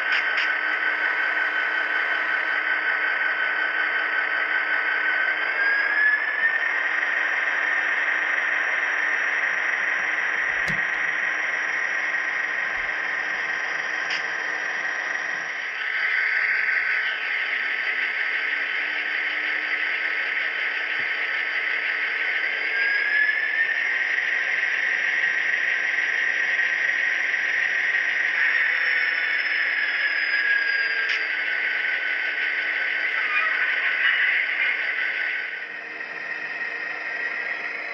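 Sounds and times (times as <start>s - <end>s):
model train rolling noise: 0.0s - 37.9s
motor whine: 0.0s - 37.9s.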